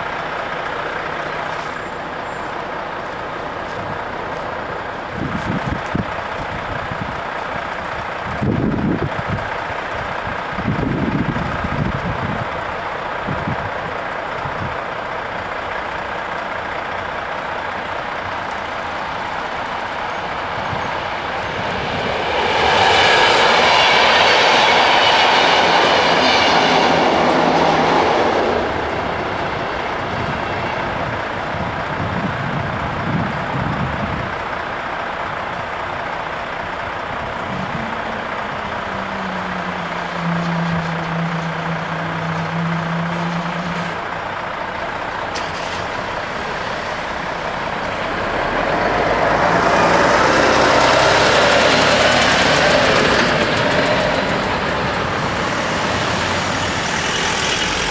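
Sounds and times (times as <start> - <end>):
electric train passing: 0.0 - 57.9.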